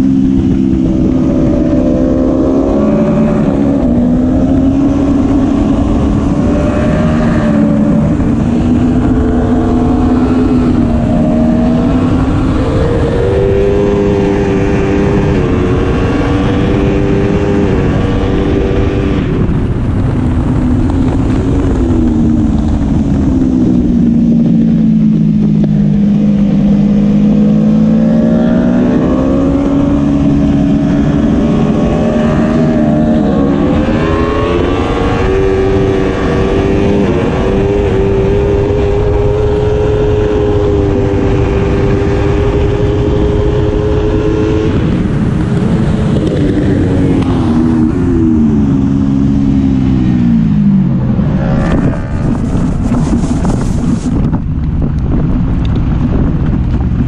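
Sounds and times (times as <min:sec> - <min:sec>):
motorcycle engine revving: 0:00.0 - 0:57.0
rushing wind noise: 0:00.0 - 0:57.0.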